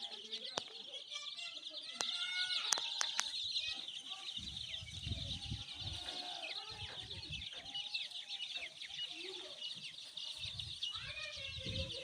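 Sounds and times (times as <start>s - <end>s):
chicks peeping: 0.0s - 12.0s
hen clucking: 1.9s - 12.0s.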